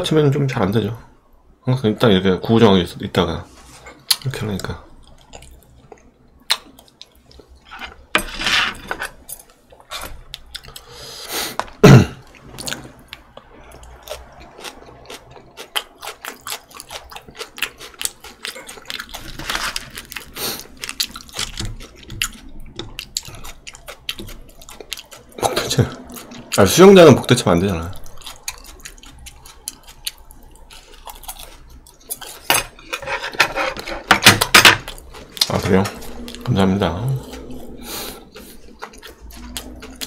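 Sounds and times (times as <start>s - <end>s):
person chewing food: 3.9s - 8.1s, 9.1s - 40.0s.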